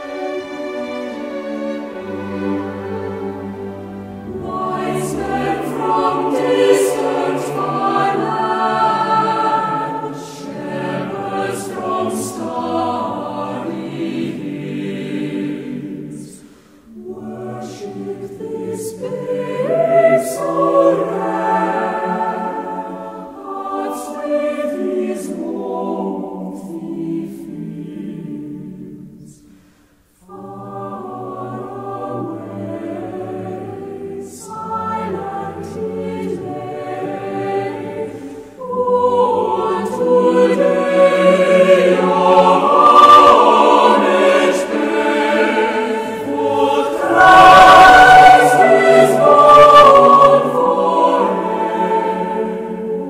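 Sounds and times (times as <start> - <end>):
choir singing: 0.0 - 53.0.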